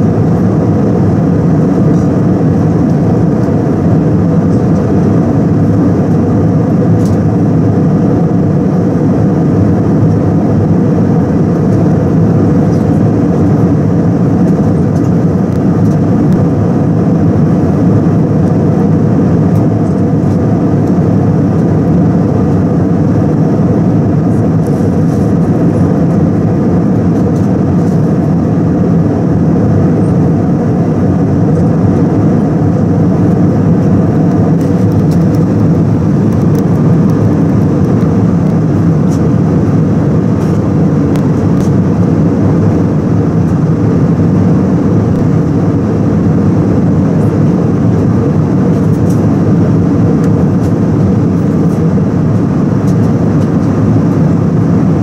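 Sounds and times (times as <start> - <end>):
airflow over fuselage: 0.0 - 55.0
jet engines droning: 0.0 - 55.0.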